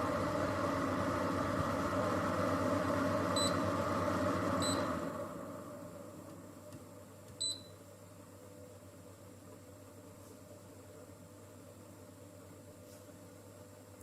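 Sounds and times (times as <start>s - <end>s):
humidifier fan running: 0.0s - 14.0s.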